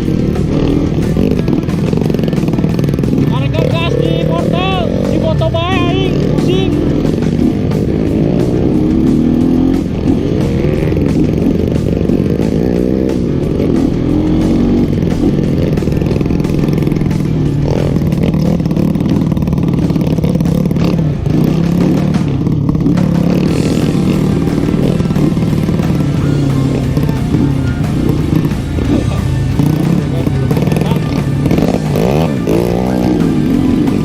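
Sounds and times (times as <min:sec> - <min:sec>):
background music: 0:00.0 - 0:34.0
motorcycle engine revving: 0:00.0 - 0:34.0.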